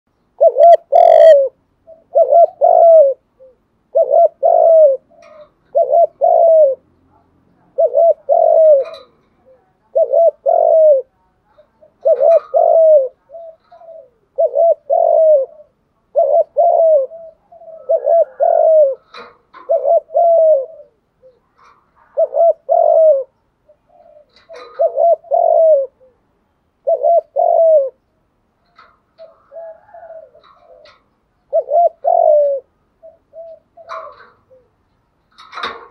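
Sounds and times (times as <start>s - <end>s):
dove cooing: 0.2s - 35.9s.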